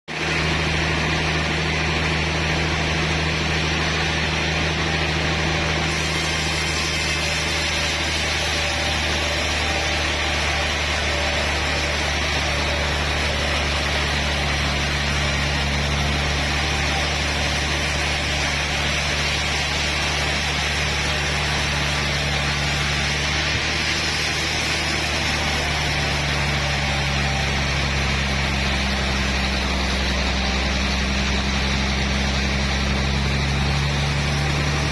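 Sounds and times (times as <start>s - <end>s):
sawmill machinery drone: 0.1s - 34.9s.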